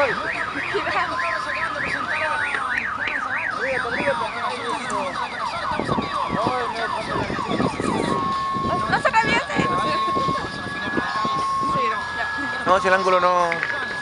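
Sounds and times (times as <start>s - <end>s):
car alarm warbling: 0.0s - 14.0s.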